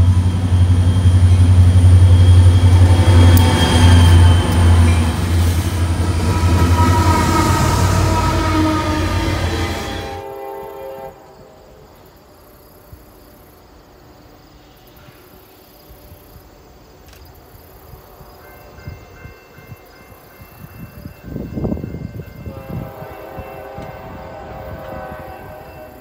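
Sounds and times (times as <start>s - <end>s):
train wheel noise: 0.0s - 10.7s, 14.6s - 26.0s
distant freight train: 0.0s - 26.0s.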